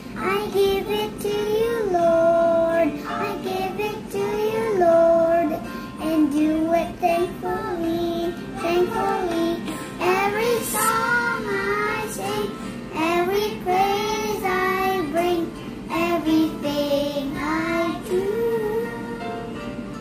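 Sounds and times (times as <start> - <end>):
boy singing: 0.2 - 19.2.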